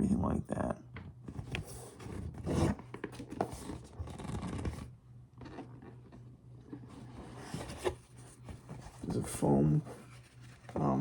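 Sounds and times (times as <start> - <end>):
cardboard scraping and rustling: 1.3 - 11.0.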